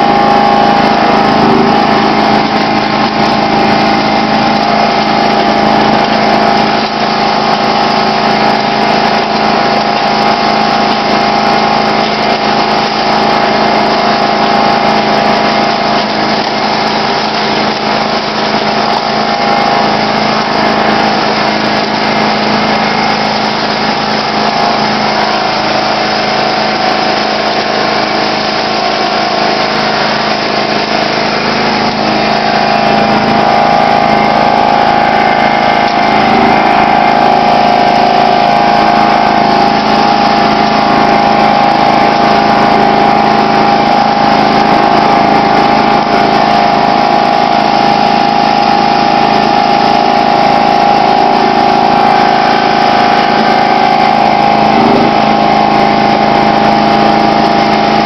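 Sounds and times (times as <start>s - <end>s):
blade pushing slush: 0.0s - 58.0s
lawn tractor engine running: 0.0s - 58.0s.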